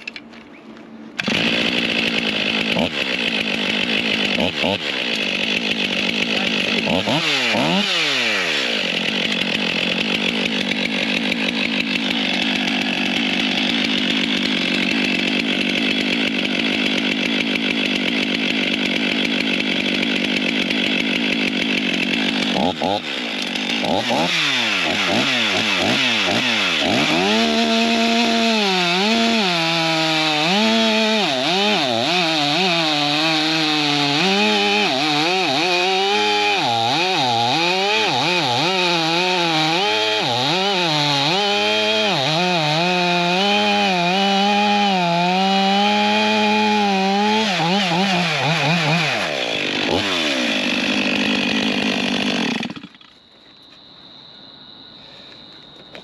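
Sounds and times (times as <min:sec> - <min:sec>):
chainsaw cutting through wood: 0:00.0 - 0:53.3.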